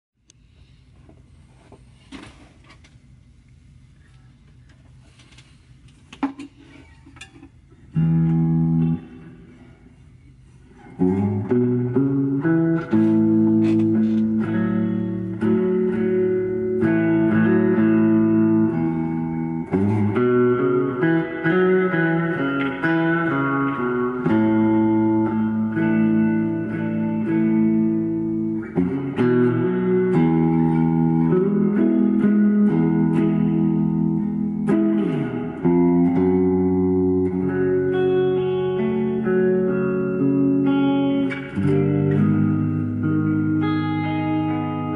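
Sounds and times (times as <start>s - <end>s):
electric guitar chords and notes: 7.6s - 44.9s.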